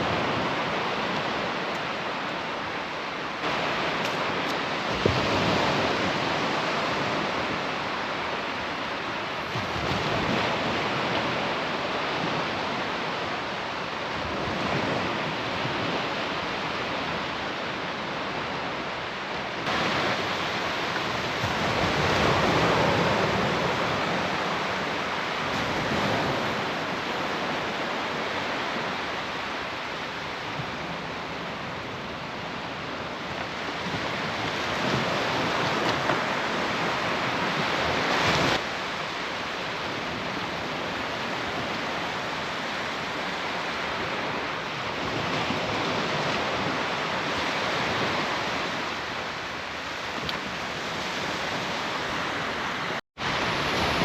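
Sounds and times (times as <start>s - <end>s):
surf breaking on beach: 0.0s - 54.0s
wind buffeting microphone: 0.0s - 54.0s.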